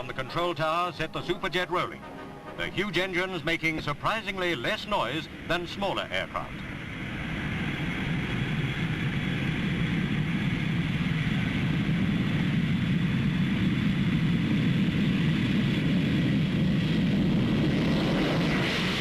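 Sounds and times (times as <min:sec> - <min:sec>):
jet engines at takeoff: 0:00.0 - 0:19.0.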